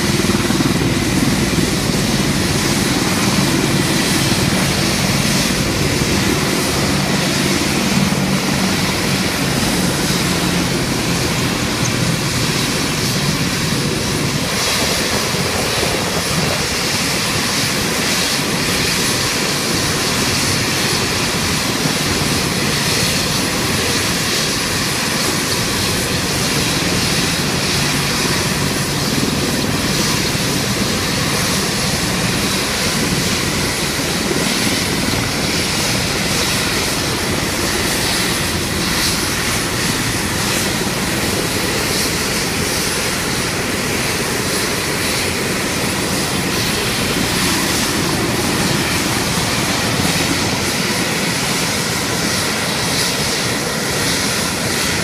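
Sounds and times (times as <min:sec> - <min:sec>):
helicopter engines and rotor blades: 0:00.0 - 0:55.0.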